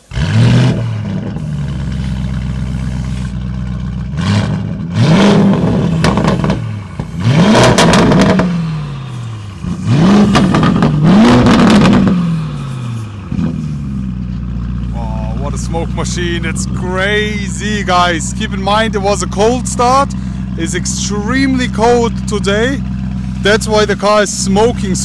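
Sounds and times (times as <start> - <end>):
car engine starting and revving: 0.0 - 25.0.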